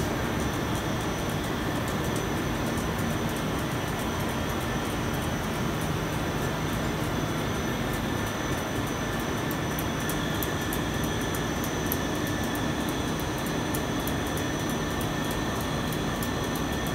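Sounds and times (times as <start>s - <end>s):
mechanical drone of fans: 0.0s - 16.9s.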